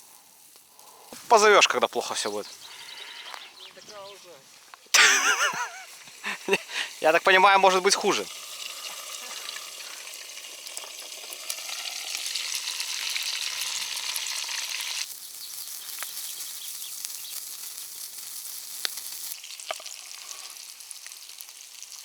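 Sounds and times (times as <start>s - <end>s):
campfire crackling and popping: 0.0s - 22.0s
fish sizzling: 0.0s - 22.0s.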